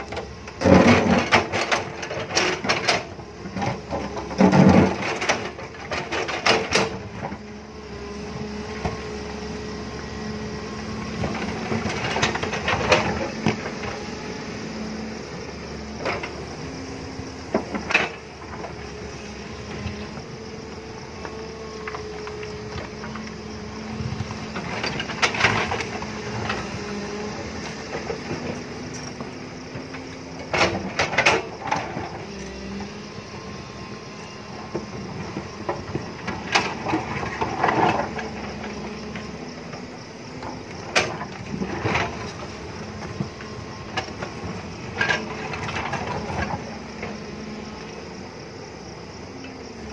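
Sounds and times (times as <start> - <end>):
excavator diesel engine: 0.0 - 49.9.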